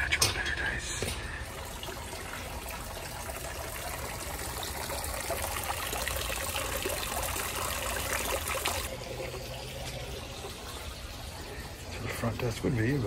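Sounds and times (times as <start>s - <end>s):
water splashing into fountain basin: 1.3s - 13.0s.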